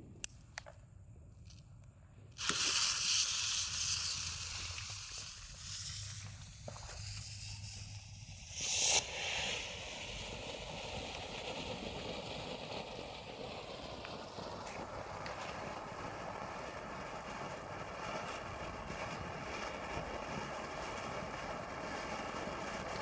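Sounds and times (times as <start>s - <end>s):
firework loud rush: 2.4s - 23.0s
fountain firework hissing: 2.4s - 23.0s.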